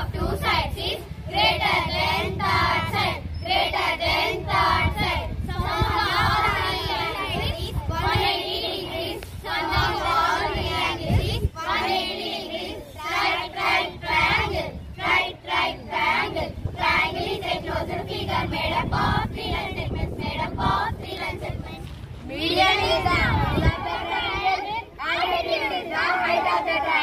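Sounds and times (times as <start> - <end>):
girls singing in unison: 0.0 - 27.0.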